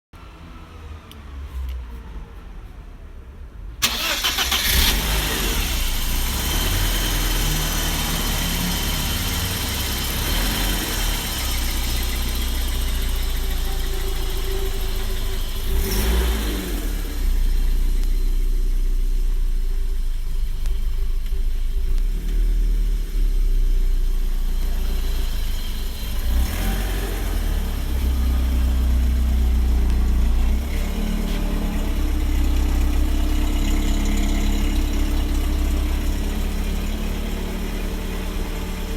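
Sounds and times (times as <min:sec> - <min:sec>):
car engine starting and idling: 0:00.4 - 0:38.9.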